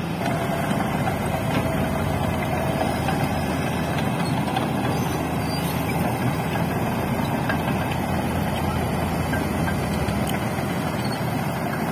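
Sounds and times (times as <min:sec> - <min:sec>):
diesel engines droning: 0:00.0 - 0:11.9.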